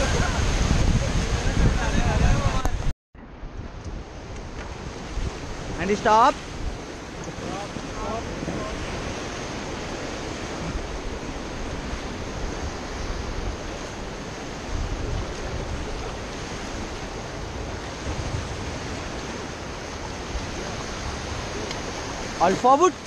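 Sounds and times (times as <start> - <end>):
wind buffeting microphone: 0.0 - 23.0
river water rushing: 4.1 - 23.0.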